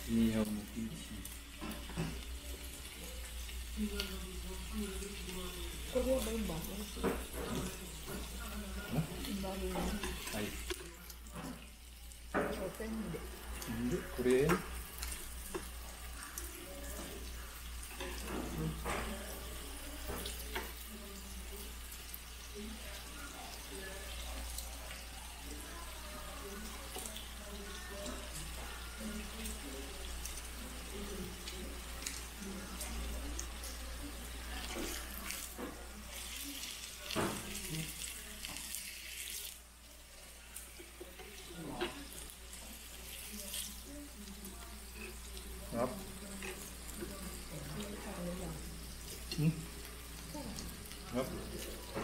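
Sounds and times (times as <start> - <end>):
meat sizzling on a grill plate: 0.0 - 52.0.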